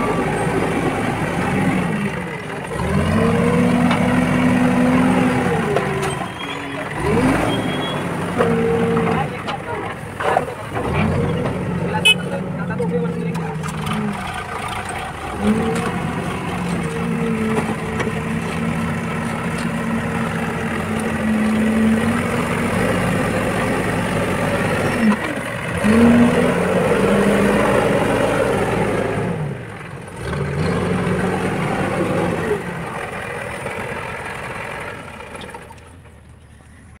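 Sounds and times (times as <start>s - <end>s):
diesel engines running under load: 0.0s - 37.0s.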